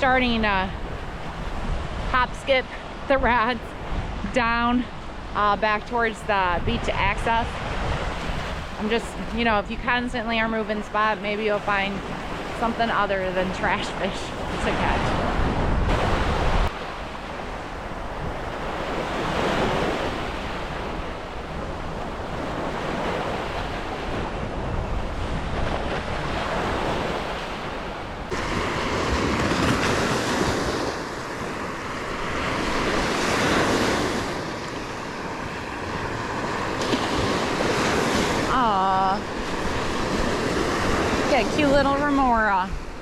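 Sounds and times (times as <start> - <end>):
wind rumbling on microphone: 0.0 - 43.0
surf breaking on beach: 6.7 - 43.0.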